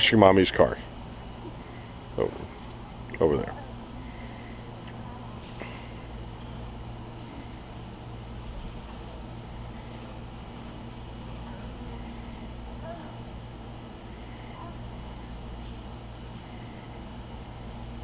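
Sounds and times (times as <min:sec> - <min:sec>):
insect chorus trilling: 0:00.0 - 0:18.0.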